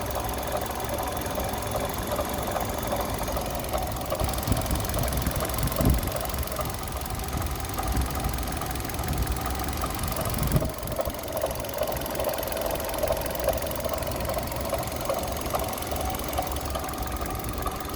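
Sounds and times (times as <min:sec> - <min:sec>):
car engine running with knock: 0:00.0 - 0:17.9.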